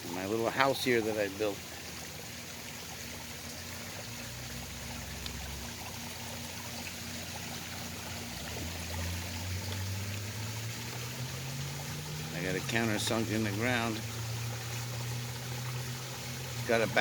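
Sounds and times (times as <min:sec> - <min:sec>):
water trickling over rocks: 0:00.0 - 0:17.0.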